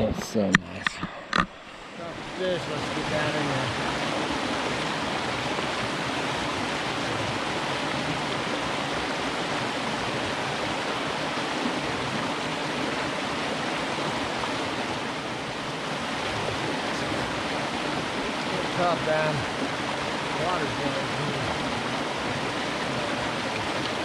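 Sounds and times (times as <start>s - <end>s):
creek running over rocks: 0.4s - 24.0s.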